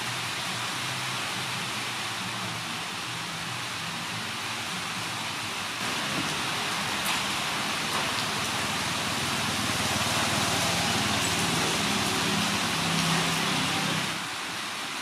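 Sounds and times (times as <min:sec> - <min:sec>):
rain on foliage: 0:00.0 - 0:15.0.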